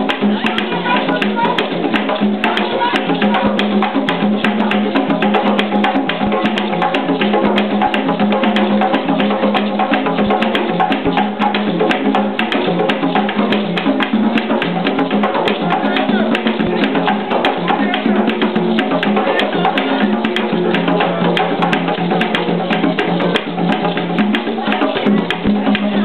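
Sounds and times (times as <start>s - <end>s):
hand drums playing: 0.0s - 26.0s.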